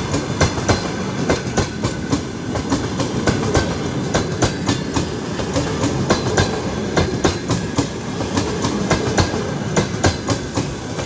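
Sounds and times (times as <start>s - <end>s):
train rumble: 0.0s - 11.0s
train wheels clacking: 0.0s - 11.0s.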